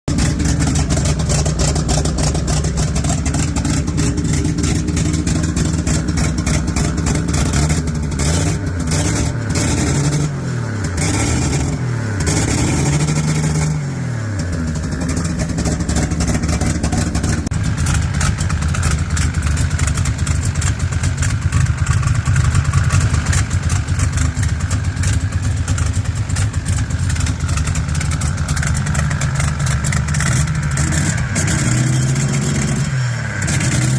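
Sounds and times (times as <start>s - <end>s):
engine idling with exhaust ticking: 0.1s - 33.9s
engine throttle blips: 0.1s - 33.9s.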